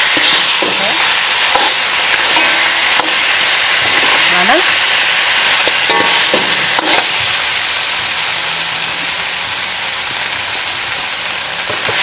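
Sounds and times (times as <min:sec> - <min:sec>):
crab sizzling in a wok: 0:00.0 - 0:12.0.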